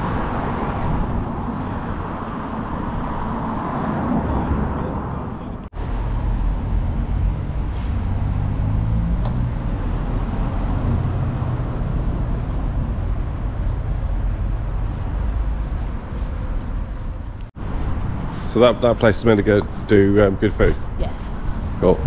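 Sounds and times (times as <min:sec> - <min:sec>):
low street rumble: 0:00.0 - 0:22.0.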